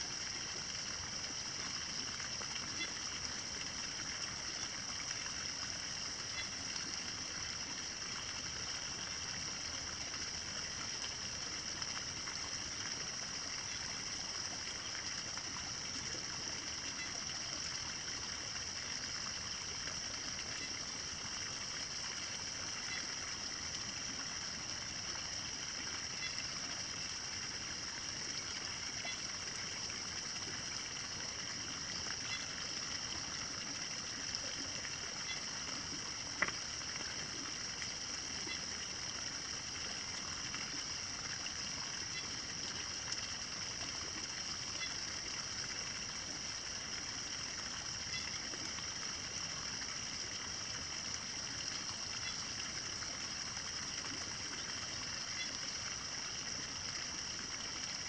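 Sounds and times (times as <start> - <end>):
trickle of running water: 0.0 - 58.0.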